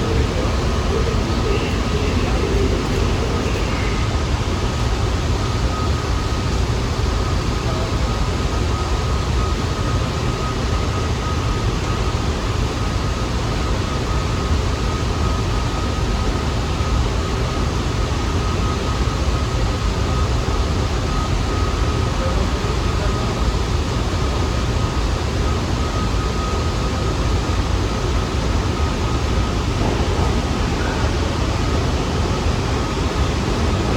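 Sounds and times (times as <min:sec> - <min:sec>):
faint steady whine: 0:00.0 - 0:33.9
subway trains rumbling: 0:00.0 - 0:33.9.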